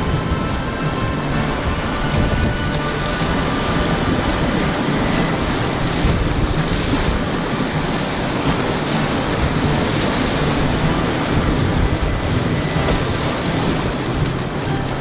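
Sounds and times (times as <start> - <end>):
rushing river whitewater: 0.0 - 15.0.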